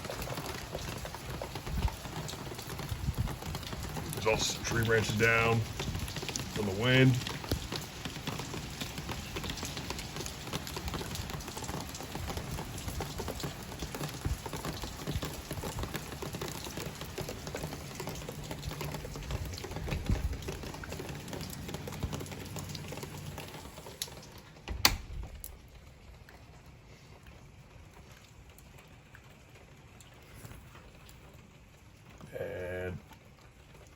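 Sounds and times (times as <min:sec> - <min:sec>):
heavy rain pattering: 0:00.0 - 0:33.9.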